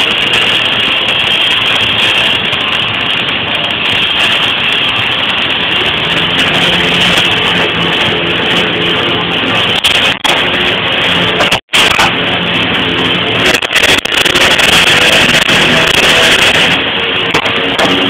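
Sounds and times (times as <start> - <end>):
welding arc buzzing crackle: 0.0 - 18.0.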